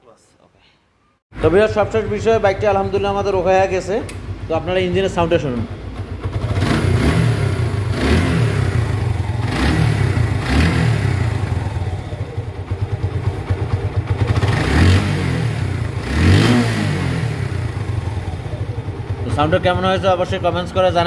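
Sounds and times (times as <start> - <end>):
motorcycle engine idling: 1.4 - 21.0.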